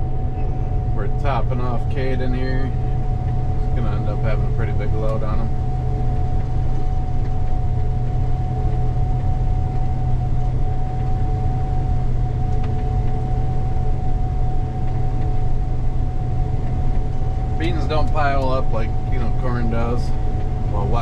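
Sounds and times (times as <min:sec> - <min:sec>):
combine harvester engine drone: 0:00.0 - 0:21.0
steady high whine: 0:00.0 - 0:21.0.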